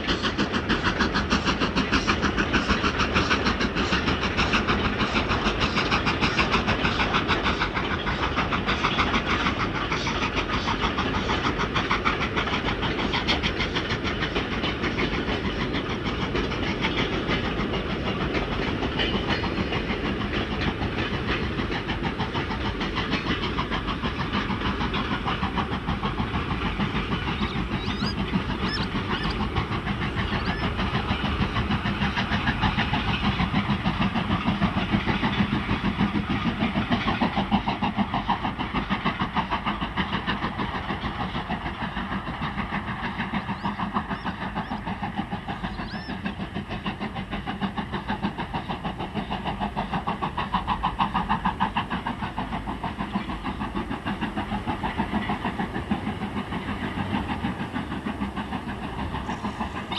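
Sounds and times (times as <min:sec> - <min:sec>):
train clattering and hissing: 0:00.0 - 0:59.9.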